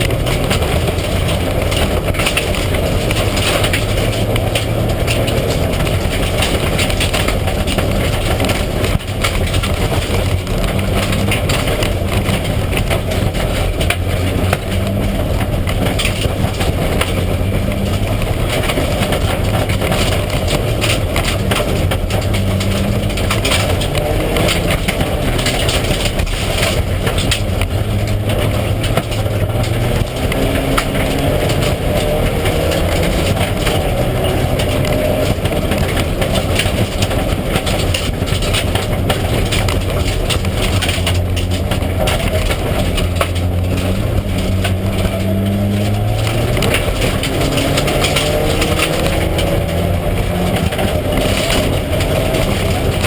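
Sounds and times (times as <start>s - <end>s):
car engine running hard: 0.0s - 53.0s
knocks and rattles: 0.0s - 53.0s
road and tyre noise: 0.0s - 53.0s.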